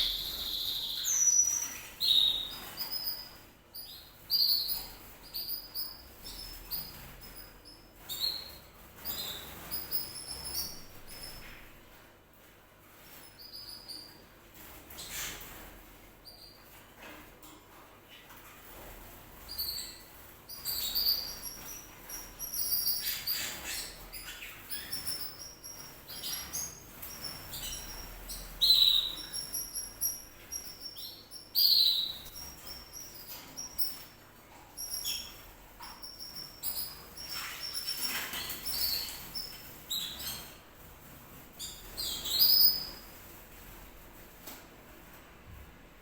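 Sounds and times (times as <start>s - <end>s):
canary chirping and twittering: 0.0s - 45.7s.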